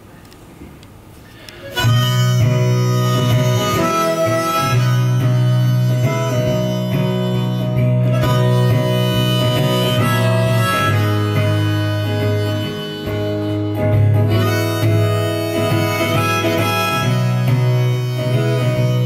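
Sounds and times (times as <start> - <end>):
acoustic guitar: 1.2 - 19.0
harmonica: 1.4 - 19.0.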